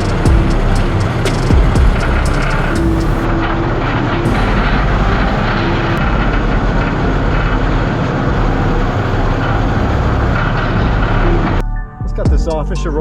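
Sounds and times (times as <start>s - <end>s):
loud engine running: 0.0s - 11.6s.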